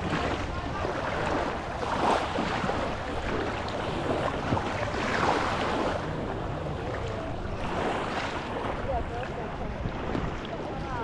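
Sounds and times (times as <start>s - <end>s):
small sea waves washing ashore: 0.0s - 11.0s.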